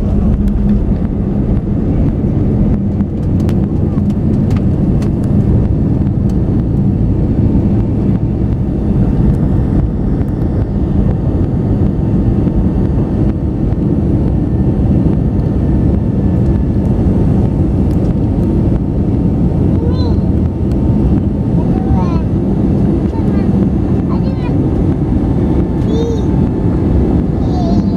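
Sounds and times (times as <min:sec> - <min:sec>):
jet engines at take-off thrust: 0:00.0 - 0:27.9.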